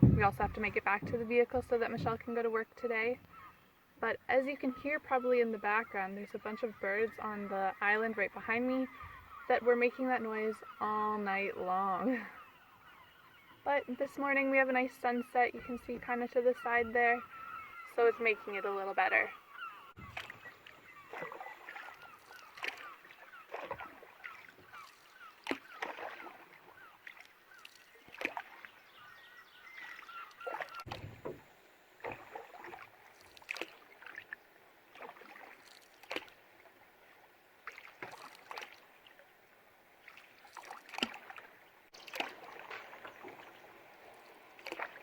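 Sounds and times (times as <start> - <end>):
canoe paddle splashing: 0.0 - 3.8, 4.4 - 11.1, 12.3 - 45.0
birds calling: 0.0 - 32.8, 41.5 - 45.0.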